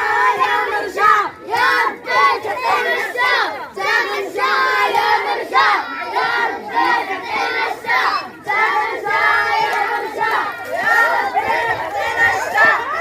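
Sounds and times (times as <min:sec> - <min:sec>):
crowd chanting: 0:00.0 - 0:13.0.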